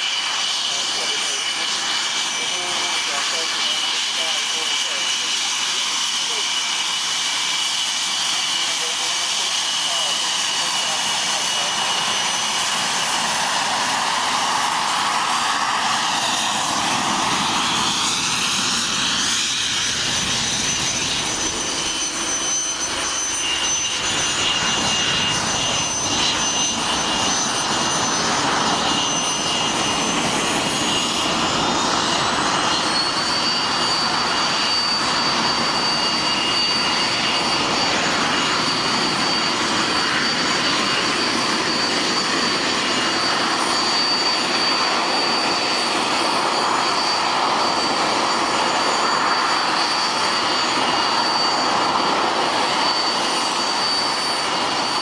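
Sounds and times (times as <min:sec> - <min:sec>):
jet engine whine: 0:00.0 - 0:55.0
rush of jet noise: 0:00.0 - 0:55.0.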